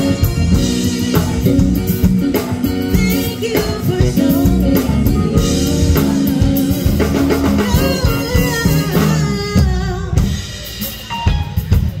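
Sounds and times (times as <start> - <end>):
drum kit: 0.0 - 12.0
electric bass: 0.0 - 12.0
keyboards playing: 0.0 - 12.0
woman singing into a microphone: 0.5 - 10.4.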